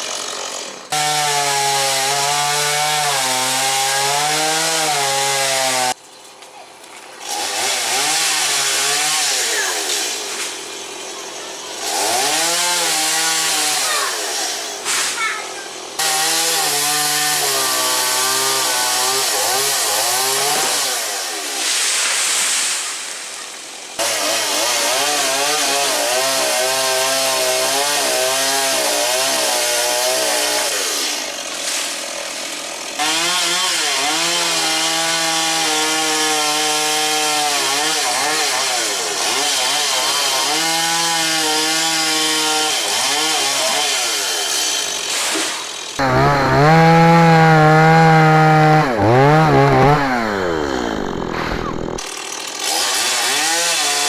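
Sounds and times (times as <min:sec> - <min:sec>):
chainsaw cutting wood: 0:00.0 - 0:06.0, 0:07.2 - 0:54.0.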